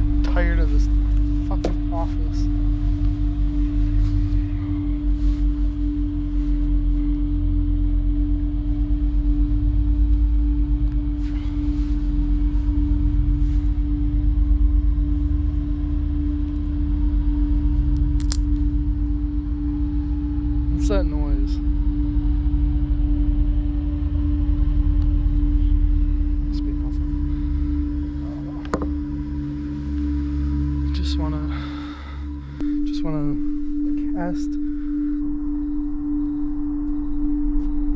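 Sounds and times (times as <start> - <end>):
deep rumble: 0.0 - 37.9
pulsing suspense drone: 0.0 - 37.9.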